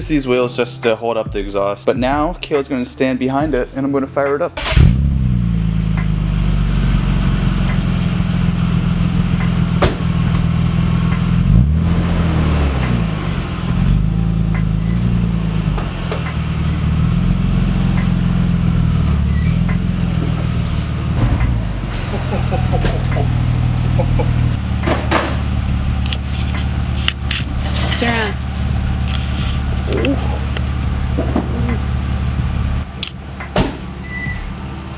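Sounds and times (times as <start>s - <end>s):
car engine idling: 0.0s - 34.9s
engine revving: 4.5s - 34.9s.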